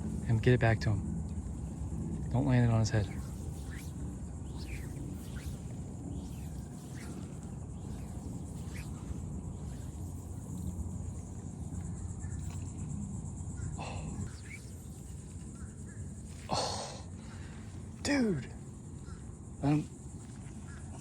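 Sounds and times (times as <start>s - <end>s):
low wind rumble: 0.0s - 21.0s
steady high-pitched buzz: 0.0s - 21.0s.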